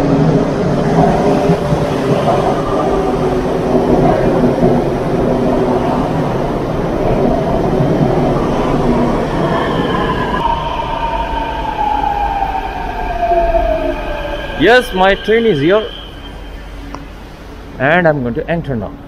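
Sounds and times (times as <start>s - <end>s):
metro train rumbling: 0.0s - 19.0s
falling brake whine: 1.0s - 17.7s.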